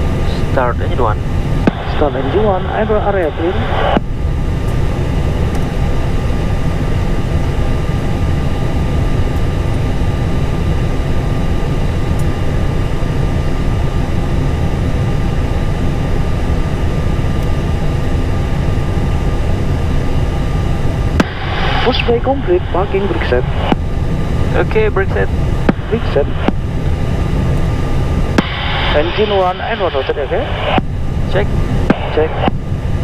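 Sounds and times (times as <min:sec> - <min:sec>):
aircraft engine rumble and hiss: 0:00.0 - 0:33.0
faint steady tones: 0:00.0 - 0:33.0.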